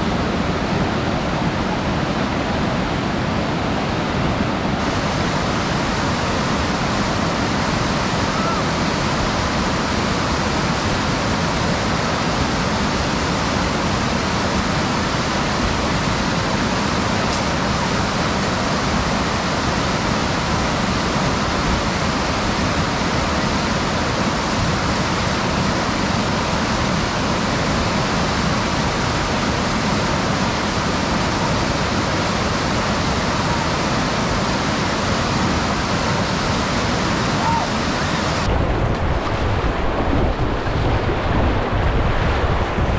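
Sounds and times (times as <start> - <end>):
churning rapid water: 0.0 - 42.9.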